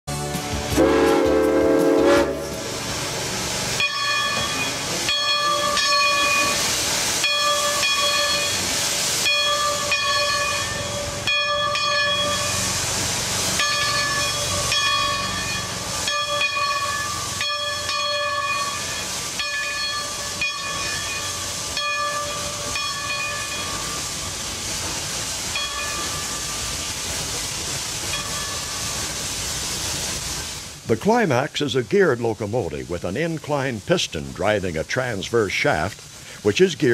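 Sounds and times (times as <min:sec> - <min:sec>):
steam hissing from locomotive: 0:00.1 - 0:36.9.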